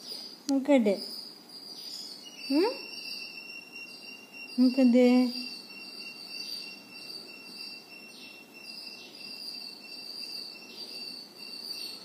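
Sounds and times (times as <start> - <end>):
high-pitched insect chorus: 1.1 - 12.0.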